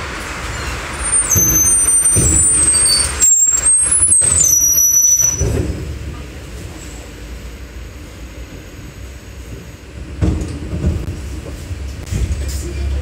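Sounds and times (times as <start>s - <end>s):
quiet bus hum: 0.0s - 13.0s
trolleybus braking rumble: 0.0s - 13.0s.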